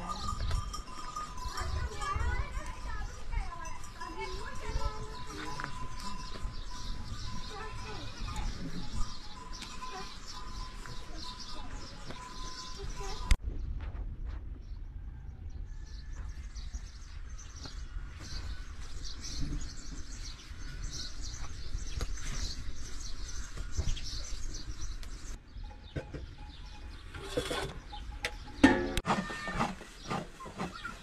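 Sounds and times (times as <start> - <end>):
birds chirping: 0.0 - 13.8, 14.6 - 31.0.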